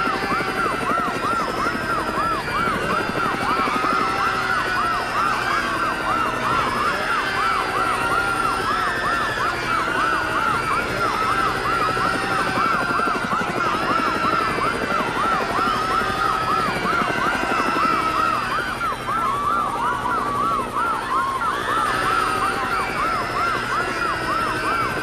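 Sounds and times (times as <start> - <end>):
helicopter rotor beat: 0.0 - 25.0
police sirens yelping: 0.0 - 25.0.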